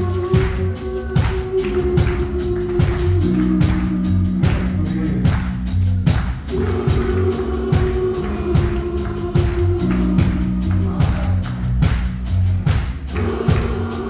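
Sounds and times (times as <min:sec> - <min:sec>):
bass notes: 0:00.0 - 0:14.0
drums steady beat: 0:00.0 - 0:14.0.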